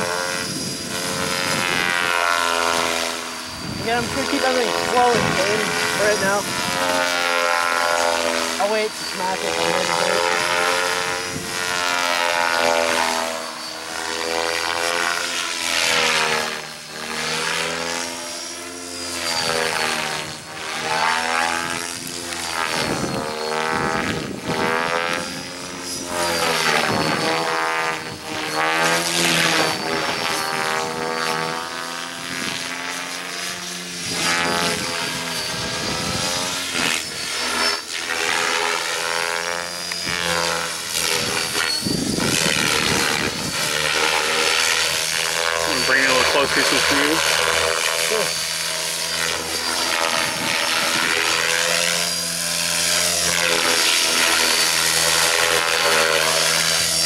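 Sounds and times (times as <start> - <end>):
electric motor whine: 0.0 - 57.0
helicopter rotor spinning: 0.0 - 57.0.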